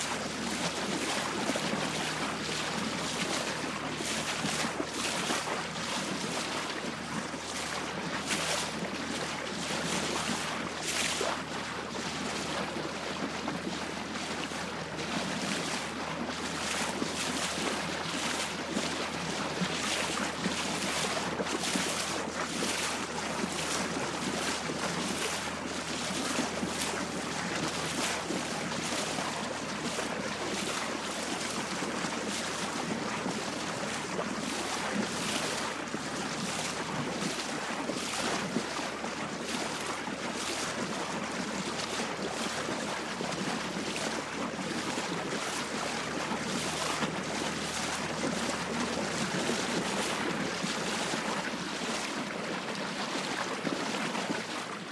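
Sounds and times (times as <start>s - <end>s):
waves splashing against boat hull: 0.0s - 54.9s.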